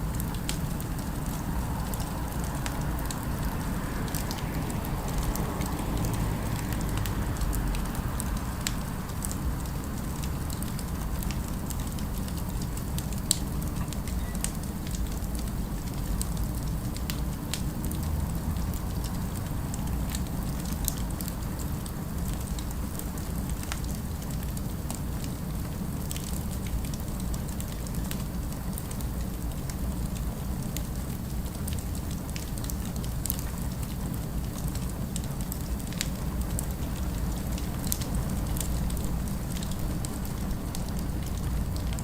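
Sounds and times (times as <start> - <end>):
fire crackling: 0.0 - 42.0.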